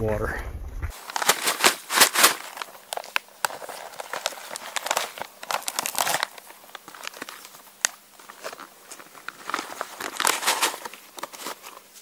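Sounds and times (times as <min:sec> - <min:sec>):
foil pouch crinkling: 0:00.9 - 0:12.0.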